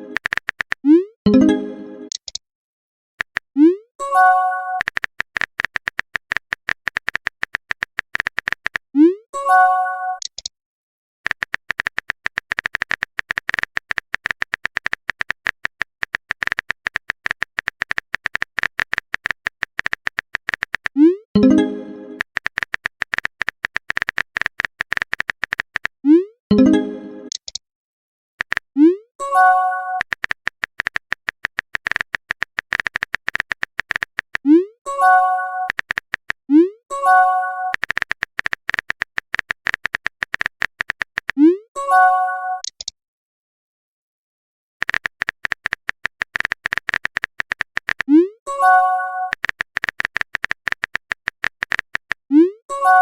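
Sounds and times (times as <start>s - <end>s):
keyboard typing clicks: 0.0s - 2.4s, 3.2s - 3.8s, 4.7s - 8.9s, 10.2s - 10.5s, 11.3s - 27.6s, 28.4s - 41.6s, 42.6s - 42.9s, 44.8s - 52.5s.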